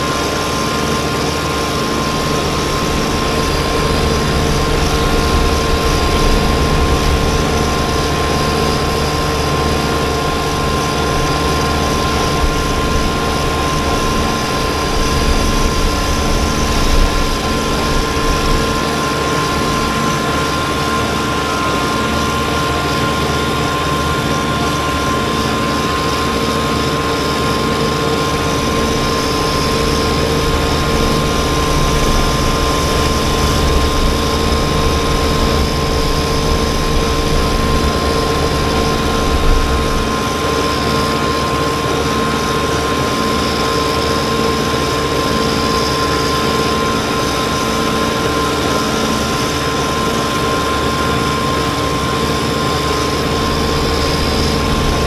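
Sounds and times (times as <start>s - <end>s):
diesel tractor engine drone: 0.0s - 55.0s
snowblower high whine: 0.0s - 55.0s.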